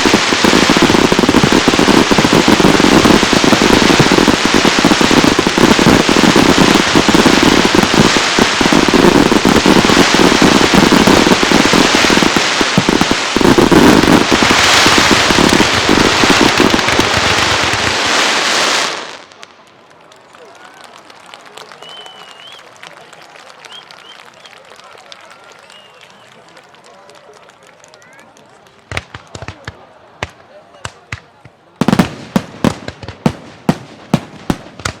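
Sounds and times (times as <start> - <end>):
fireworks bursting and crackling: 0.0 - 26.4, 27.1 - 35.0.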